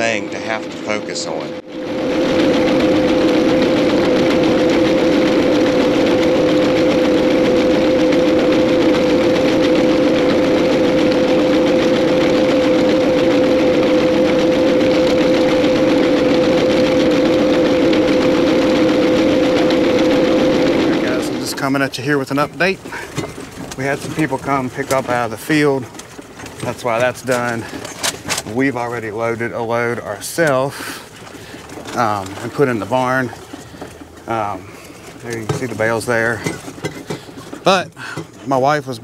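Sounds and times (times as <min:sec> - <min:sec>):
baler mechanism working: 0:00.0 - 0:39.0
tractor engine under load: 0:00.0 - 0:39.0.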